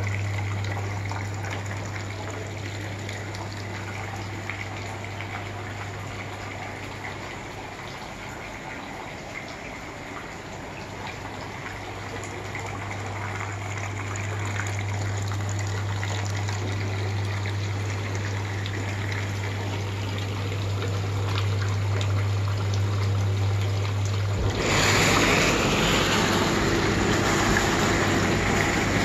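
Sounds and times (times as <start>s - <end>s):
low pump hum: 0.0s - 29.0s
water churning and gushing: 0.0s - 29.0s.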